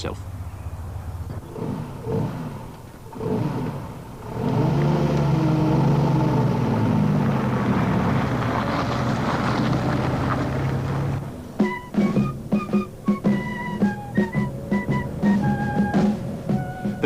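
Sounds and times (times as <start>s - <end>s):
military vehicle engine revving: 0.0s - 17.0s.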